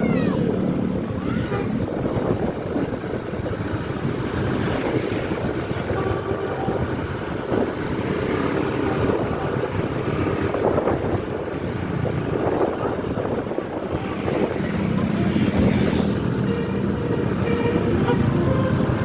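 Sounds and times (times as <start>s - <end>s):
bus passing: 0.0s - 19.0s
road traffic noise: 0.0s - 19.0s
wind buffeting microphone: 0.0s - 19.0s.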